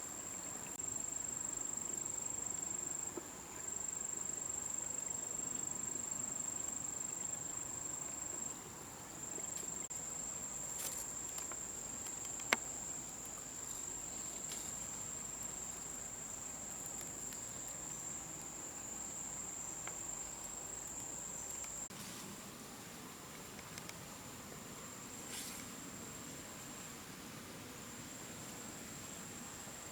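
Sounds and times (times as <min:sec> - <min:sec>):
forest background: 0:00.0 - 0:29.9.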